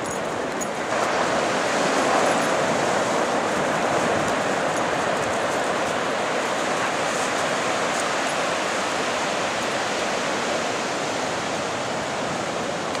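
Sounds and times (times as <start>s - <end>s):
surf breaking on beach: 0.4s - 13.0s.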